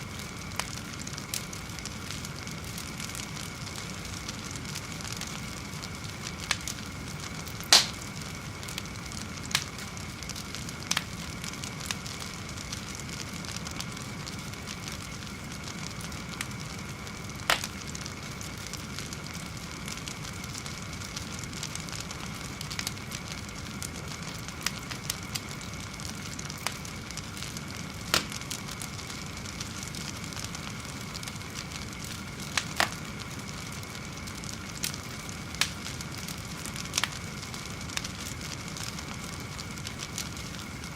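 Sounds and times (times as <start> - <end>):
fire crackling and popping: 0.0 - 40.9
fire hissing and rumbling: 0.0 - 40.9.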